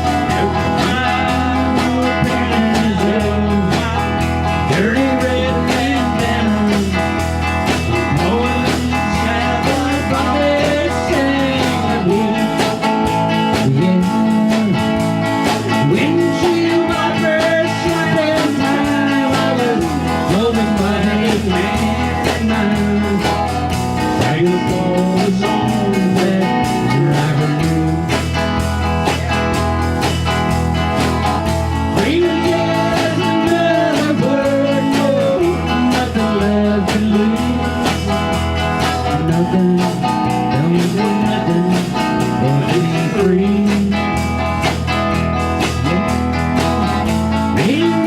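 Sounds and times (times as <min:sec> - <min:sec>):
bass line: 0:00.0 - 0:48.0
blues rock band playing: 0:00.0 - 0:48.0
lead guitar bending notes: 0:00.0 - 0:48.0
steady drum beat: 0:00.0 - 0:48.0.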